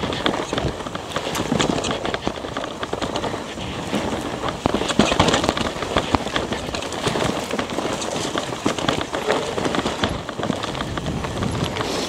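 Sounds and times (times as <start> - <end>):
bike chain and frame rattling: 0.0 - 11.9
tyres crunching over dirt: 0.0 - 12.0.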